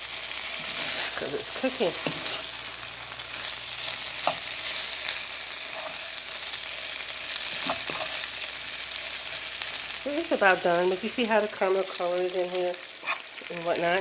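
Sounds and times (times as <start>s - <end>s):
potatoes sizzling in oil: 0.0s - 14.0s.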